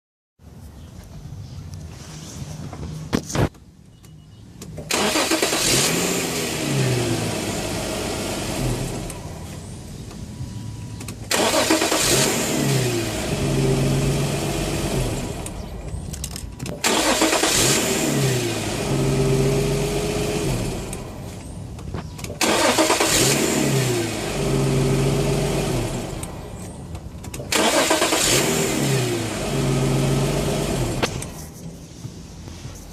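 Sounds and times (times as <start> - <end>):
car engine starting and idling: 4.6 - 32.8.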